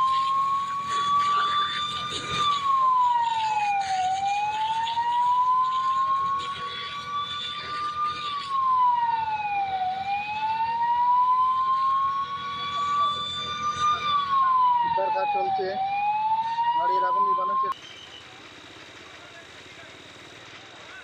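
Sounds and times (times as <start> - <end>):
emergency siren wailing: 0.0 - 17.8.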